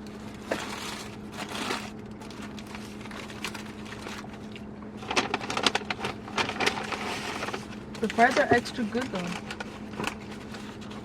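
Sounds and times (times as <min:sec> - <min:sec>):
low hum inside car: 0:00.0 - 0:11.0
paper bag and wrappers rustling: 0:00.0 - 0:11.0.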